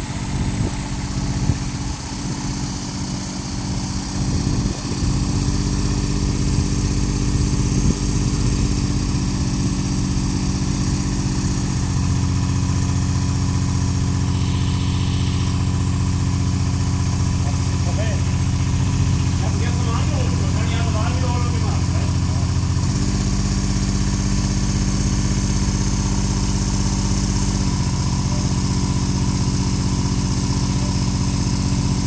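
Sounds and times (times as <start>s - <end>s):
crane engine running: 0.0s - 32.0s.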